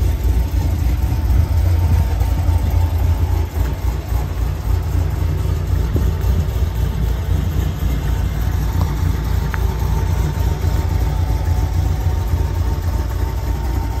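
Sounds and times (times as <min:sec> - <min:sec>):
car engine idling unevenly: 0:00.0 - 0:14.0.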